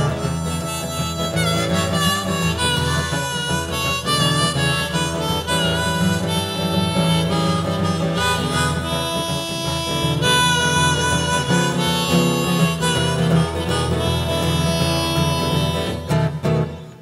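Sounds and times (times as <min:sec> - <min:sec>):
acoustic guitar: 0:00.0 - 0:17.0
harmonica melody: 0:00.0 - 0:17.0.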